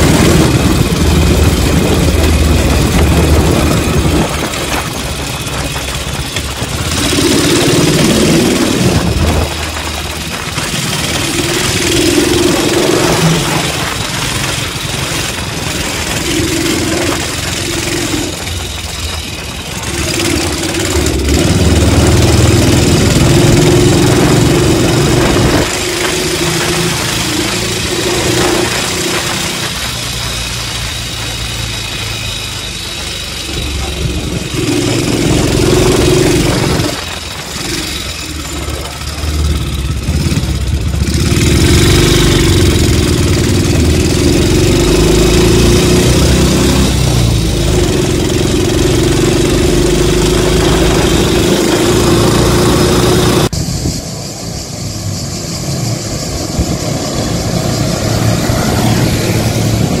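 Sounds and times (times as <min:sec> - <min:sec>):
motorcycle engine: 0:00.0 - 1:00.0
wind rushing past microphone: 0:00.0 - 1:00.0.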